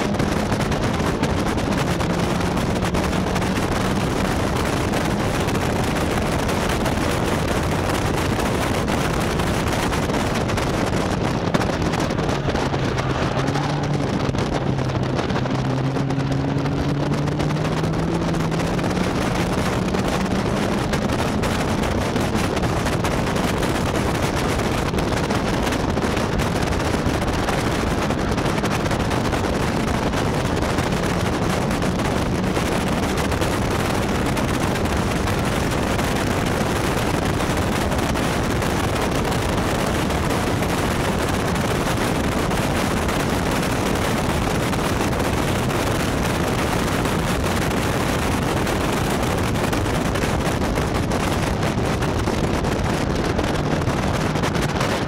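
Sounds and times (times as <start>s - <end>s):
car engine running: 0.0s - 55.0s
wind rushing over microphone: 0.0s - 55.0s.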